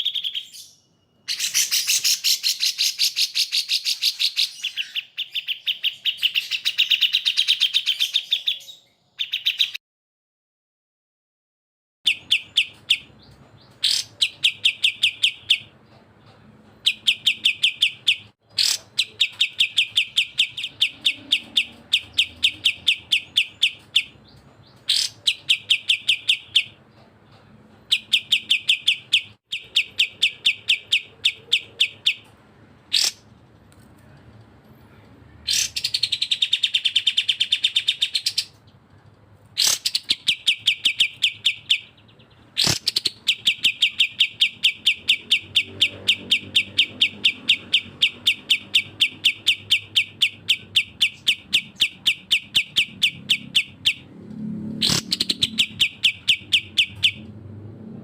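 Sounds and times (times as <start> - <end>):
songbirds chattering: 0.0 - 9.8, 12.1 - 34.2, 34.8 - 54.1, 54.8 - 57.3.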